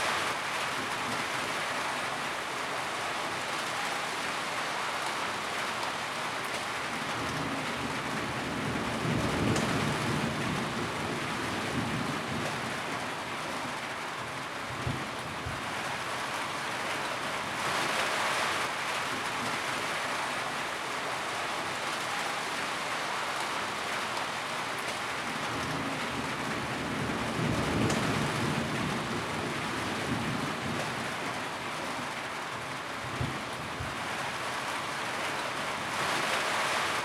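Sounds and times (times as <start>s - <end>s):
rain on a tin roof: 0.0s - 37.0s.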